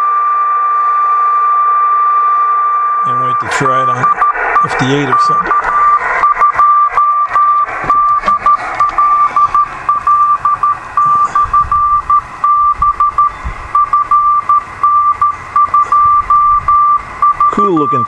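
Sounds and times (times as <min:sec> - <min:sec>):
morse code tone: 0:00.0 - 0:18.0
receiver hiss: 0:00.0 - 0:18.0.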